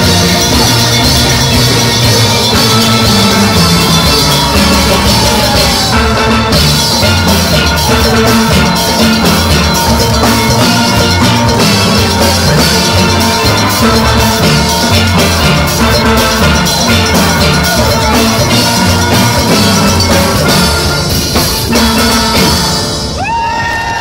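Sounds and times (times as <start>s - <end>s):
steady driving beat: 0.0s - 23.2s
steel pan ensemble playing: 0.0s - 23.3s.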